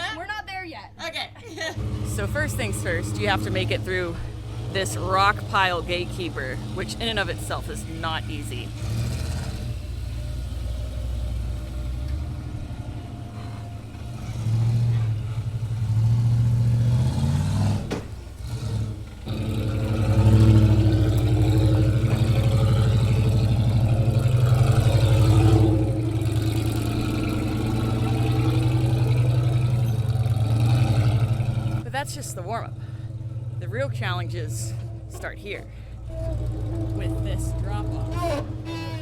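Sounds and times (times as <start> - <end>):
off-road vehicle engine under load: 0.0 - 39.0.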